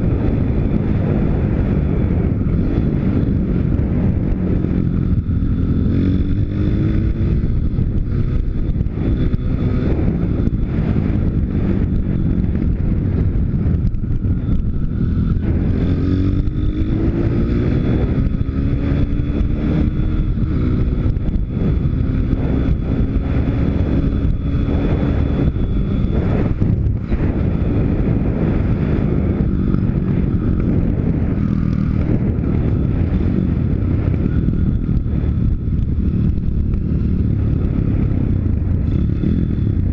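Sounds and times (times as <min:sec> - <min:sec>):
motorbike engine revving: 0:00.0 - 0:39.9
wind noise on microphone: 0:00.0 - 0:39.9.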